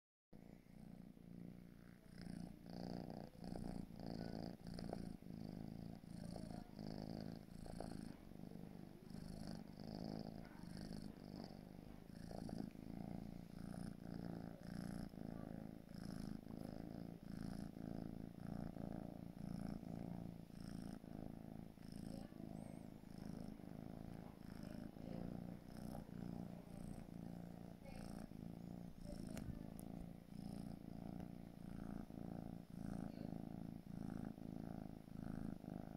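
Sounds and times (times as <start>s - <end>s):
kitten purring: 0.4s - 35.9s.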